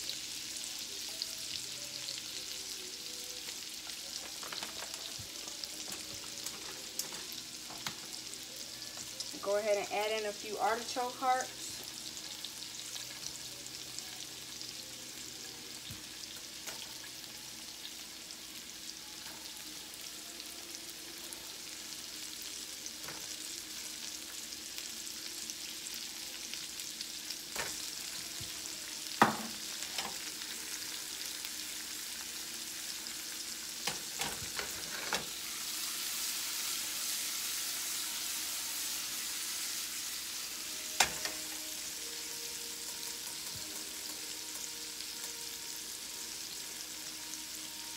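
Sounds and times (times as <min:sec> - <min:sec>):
food sizzling in a frying pan: 0:00.0 - 0:47.9.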